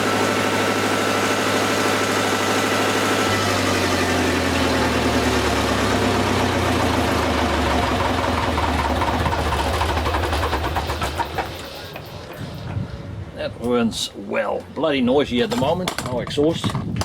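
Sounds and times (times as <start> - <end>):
diesel generator engine running: 0.0 - 14.9.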